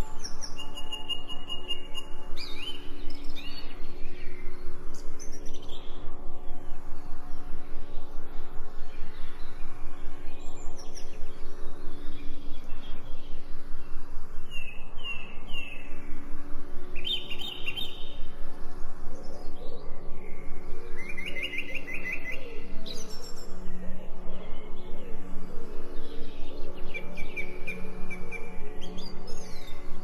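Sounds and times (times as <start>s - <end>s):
low pulsing humming drone: 0.0s - 30.0s
songbirds chirping and trilling: 0.0s - 30.0s.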